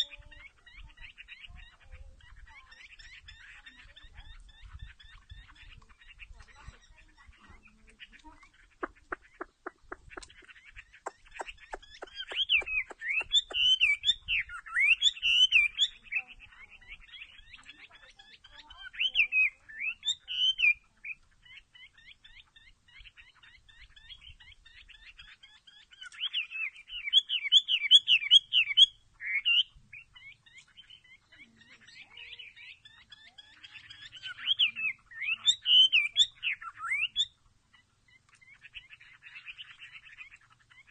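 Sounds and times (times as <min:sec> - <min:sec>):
bird chirping and twittering: 0:00.0 - 0:40.9.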